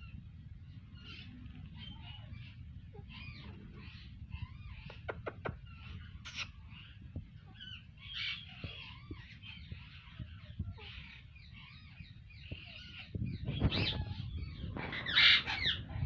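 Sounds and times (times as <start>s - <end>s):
parakeets chattering softly: 0.0s - 16.0s
parakeet squawking calls: 1.0s - 16.0s.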